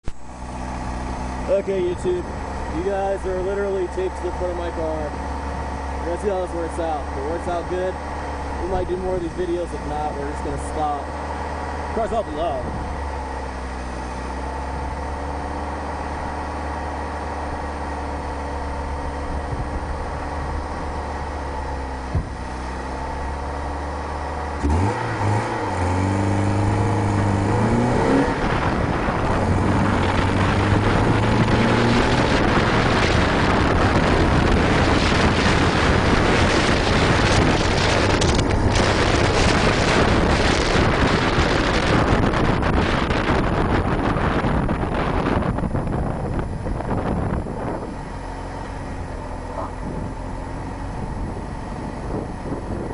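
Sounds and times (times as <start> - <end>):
car engine idling and revving: 0.0 - 52.9
road noise: 0.0 - 52.9
wind rushing over microphone: 0.1 - 52.9.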